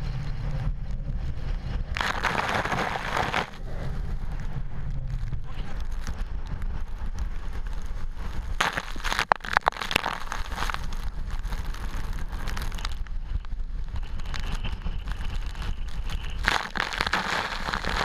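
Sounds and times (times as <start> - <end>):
rain crackling against microphone: 0.0 - 18.0
wind buffeting microphone: 0.0 - 18.0.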